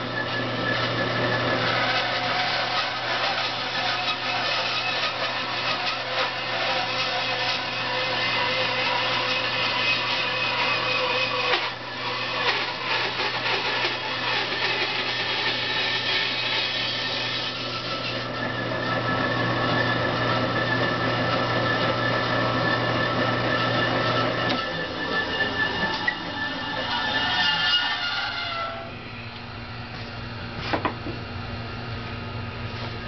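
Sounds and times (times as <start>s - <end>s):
bandsaw cutting wood: 0.0s - 28.9s.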